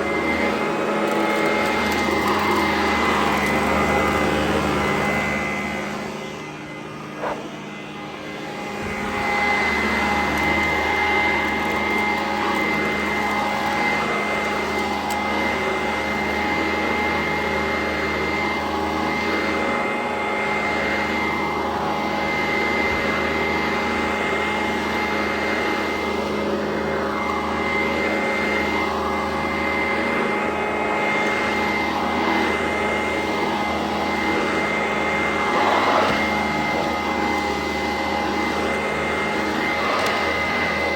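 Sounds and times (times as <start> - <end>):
upright vacuum cleaner whining: 0.0 - 40.9.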